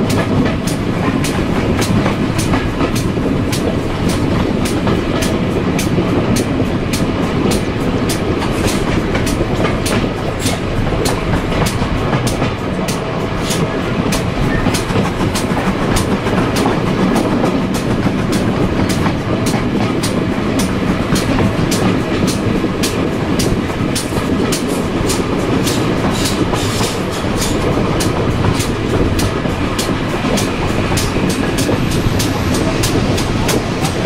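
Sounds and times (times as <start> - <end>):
train wheels rumbling on rails: 0.0 - 34.0
wheels clickety-clack over rail joints: 0.0 - 34.0.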